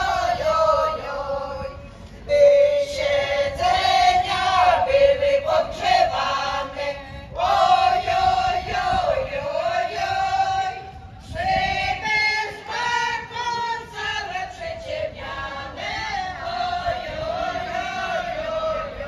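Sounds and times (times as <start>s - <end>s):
choir singing: 0.0s - 1.7s, 2.3s - 19.0s.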